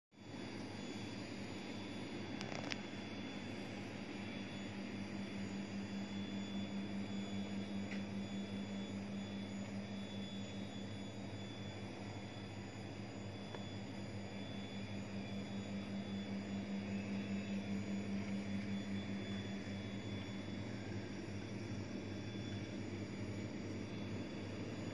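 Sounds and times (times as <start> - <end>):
freezer compressor humming: 0.2 - 24.9.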